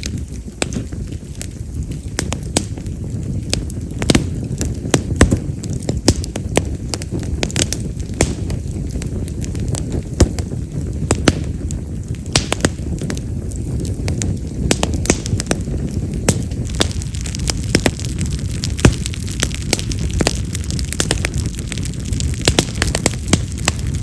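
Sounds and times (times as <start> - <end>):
fire crackling and popping: 0.0 - 24.0
flames rumbling: 0.0 - 24.0.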